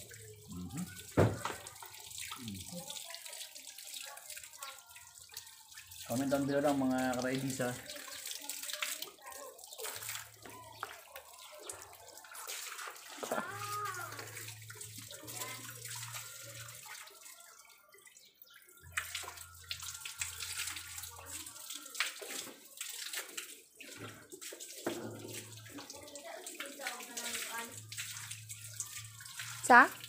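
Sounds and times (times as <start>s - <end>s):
hose water splashing: 0.0s - 30.0s.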